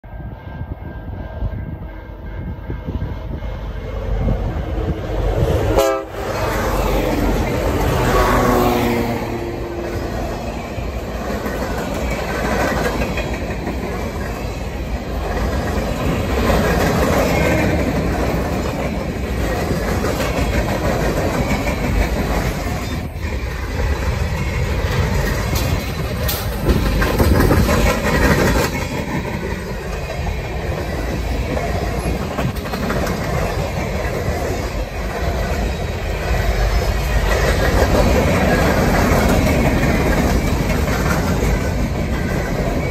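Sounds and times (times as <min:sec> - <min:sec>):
freight train wheels on rails: 0:00.0 - 0:42.9.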